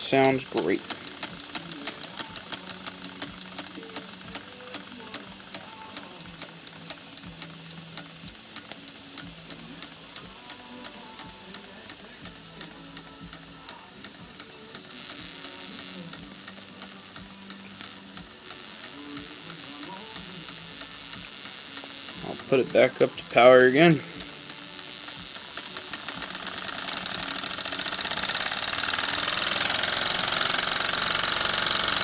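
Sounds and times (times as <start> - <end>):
steam hissing: 0.0 - 32.0.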